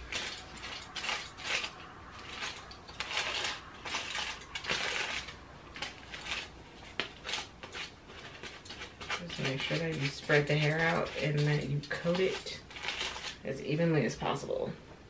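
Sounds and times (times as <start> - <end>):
aluminium foil crinkling: 0.0 - 13.6.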